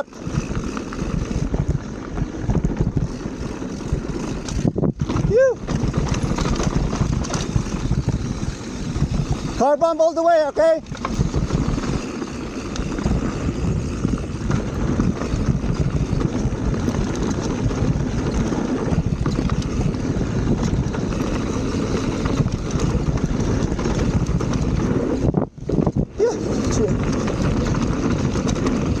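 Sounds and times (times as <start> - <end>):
tyres rumbling on dirt trail: 0.0 - 29.0
wind rushing over microphone: 0.0 - 29.0.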